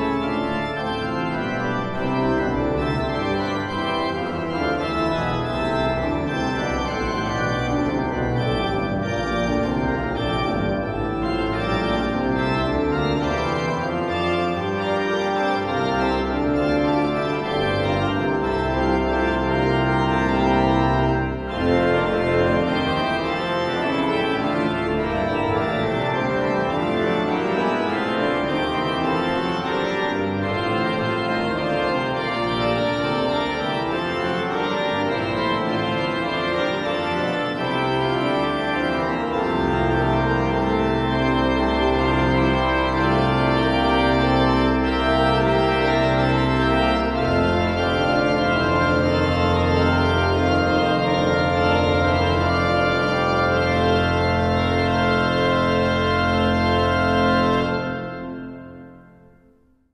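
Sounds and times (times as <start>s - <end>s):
low organ pedal notes: 0.0s - 59.4s
pipe organ playing a fugue: 0.0s - 59.6s.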